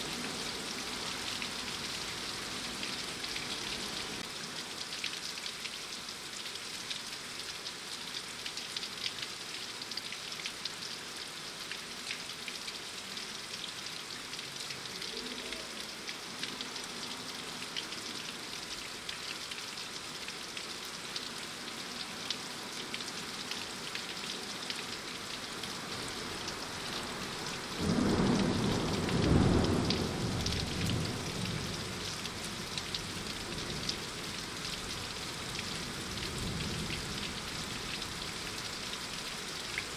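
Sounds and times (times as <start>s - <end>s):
raindrops pattering: 0.0s - 39.9s
steady rain: 0.0s - 39.9s.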